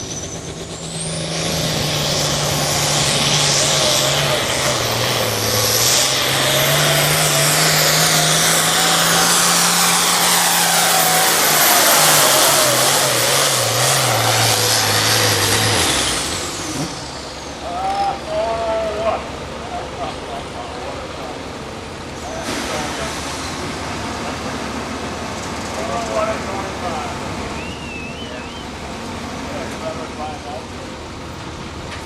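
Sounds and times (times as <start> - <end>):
engine running under heavy load: 0.0 - 32.0.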